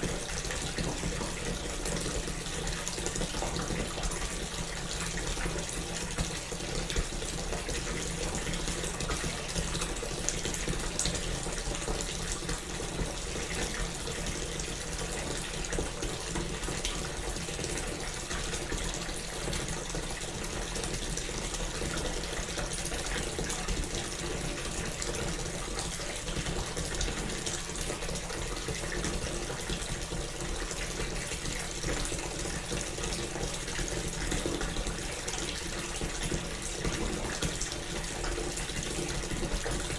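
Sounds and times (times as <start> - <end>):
water pouring into bathtub: 0.0 - 39.9.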